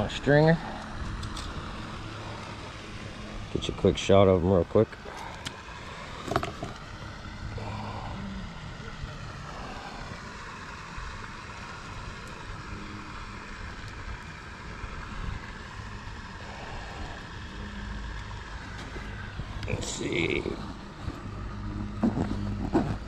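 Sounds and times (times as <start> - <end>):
distant engine drone: 0.0 - 23.0.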